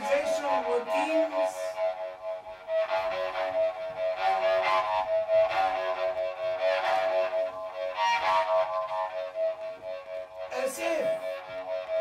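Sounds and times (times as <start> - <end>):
steady wavering tone: 0.0 - 12.0.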